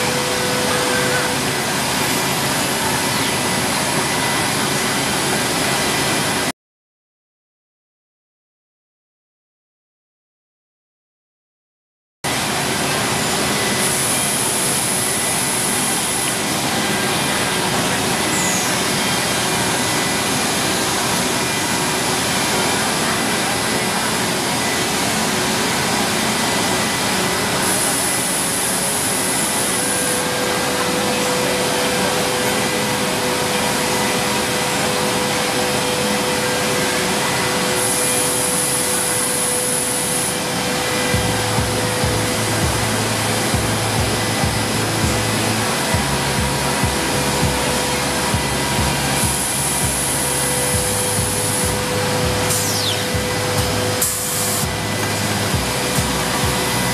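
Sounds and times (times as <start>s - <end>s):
high-pitched whine: 0.0s - 6.5s, 12.3s - 56.9s
milling machine noise: 0.0s - 6.5s, 12.3s - 56.9s
steady hum tone: 0.0s - 6.5s, 12.3s - 56.9s.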